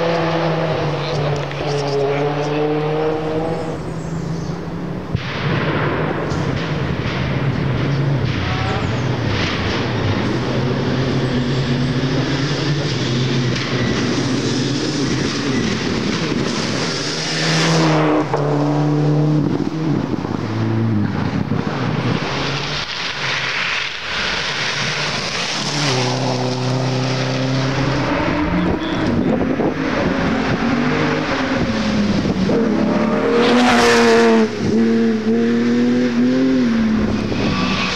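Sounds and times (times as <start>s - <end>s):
rally car engines at high revs: 0.0s - 37.9s.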